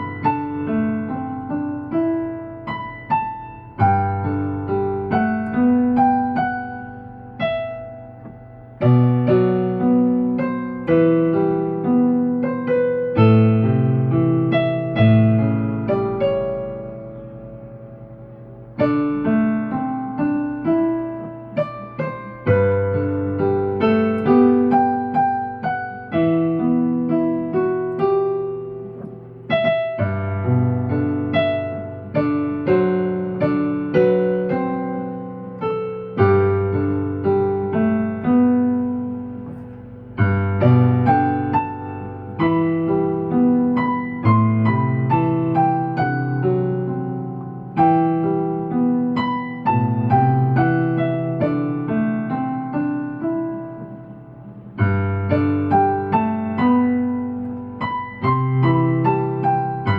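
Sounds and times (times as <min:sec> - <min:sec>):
slow piano ballad: 0:00.0 - 0:59.9.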